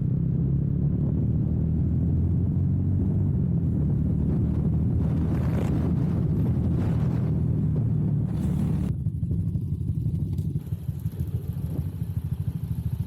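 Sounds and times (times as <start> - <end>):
wind noise on microphone: 0.0 - 12.6
motorcycle engine running: 0.0 - 13.0.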